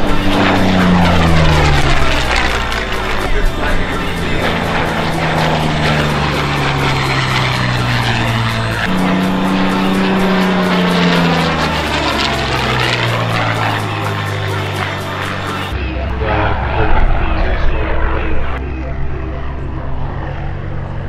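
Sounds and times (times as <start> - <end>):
background music with low chords: 0.0 - 21.0
propeller aircraft flying past: 0.0 - 21.0.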